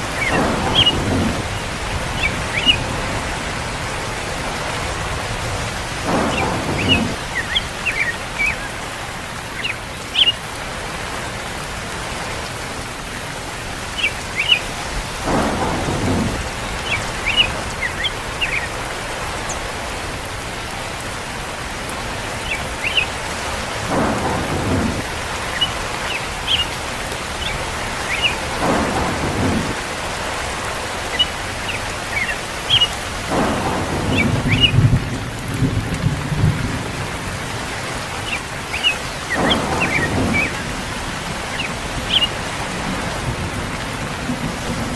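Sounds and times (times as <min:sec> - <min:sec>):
steady rain falling: 0:00.0 - 0:44.9
thunder rumbling: 0:00.0 - 0:44.9.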